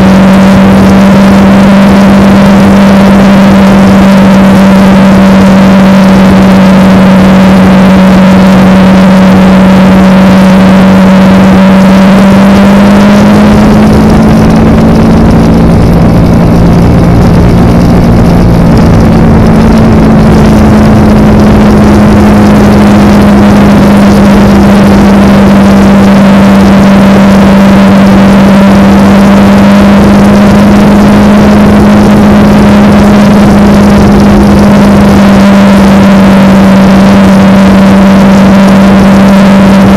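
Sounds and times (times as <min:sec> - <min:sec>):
motorcycle engine droning: 0:00.0 - 0:39.9
rushing wind noise: 0:00.0 - 0:39.9.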